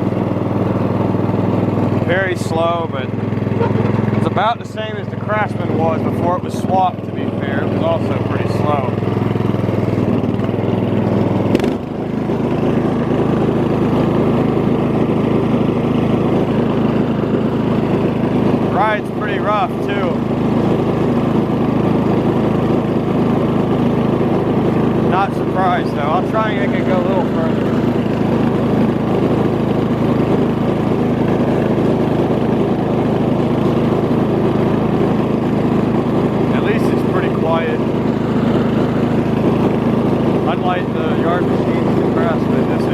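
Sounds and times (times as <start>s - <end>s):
riding mower engine running: 0.0s - 42.9s.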